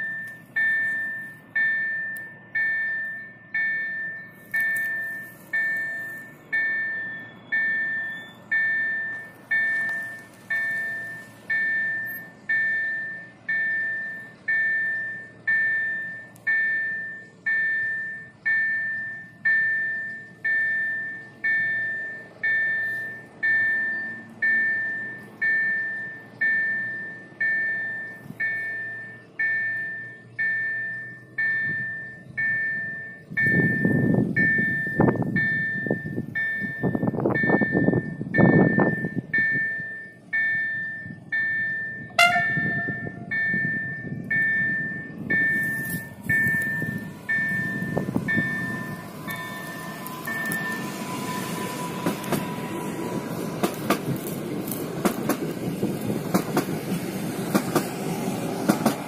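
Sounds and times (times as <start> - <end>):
level crossing warning bell: 0.0 - 53.6.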